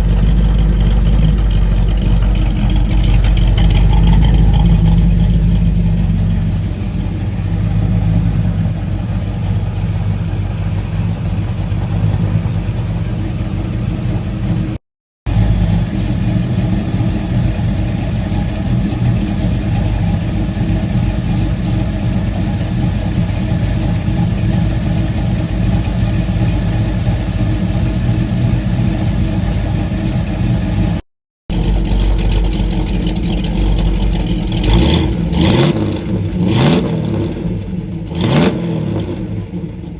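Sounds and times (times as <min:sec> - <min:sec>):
engine idling with lope: 0:00.0 - 0:39.9.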